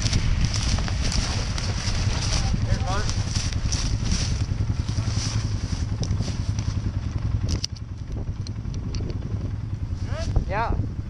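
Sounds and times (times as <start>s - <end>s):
rattling and clatter: 0.0s - 10.4s
quad engine droning: 0.0s - 11.0s.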